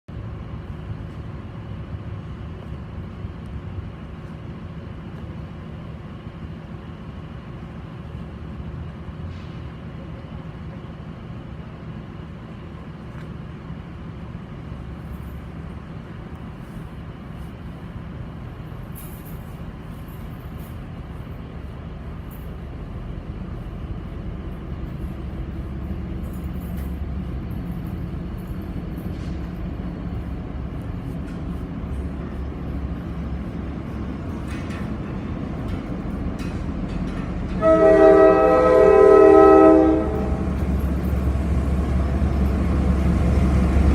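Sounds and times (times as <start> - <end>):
locomotive engine drone: 0.1 - 43.9.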